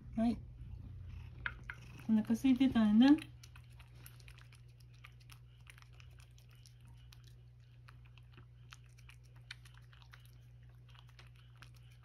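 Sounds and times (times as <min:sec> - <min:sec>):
steady low hum: 0:00.0 - 0:12.0
cat chewing food: 0:00.6 - 0:12.0.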